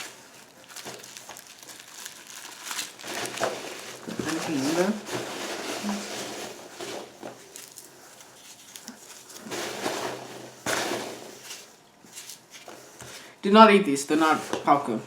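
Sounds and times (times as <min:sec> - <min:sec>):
packing peanuts rustling: 0:00.0 - 0:13.3.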